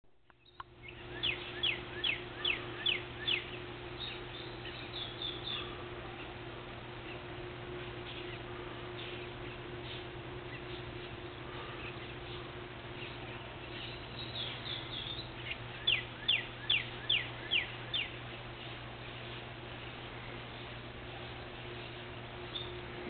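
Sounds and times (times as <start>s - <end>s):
songbirds chirping faintly: 0.1s - 23.0s
steady low hum: 0.1s - 23.0s
bird singing down-slurred whistles: 0.3s - 5.7s, 7.8s - 19.4s, 21.2s - 22.8s.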